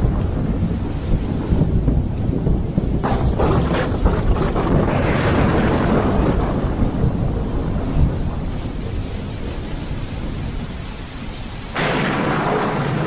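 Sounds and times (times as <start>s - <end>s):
rain hissing: 0.0s - 13.0s
thunder clap and rumble: 0.0s - 13.0s.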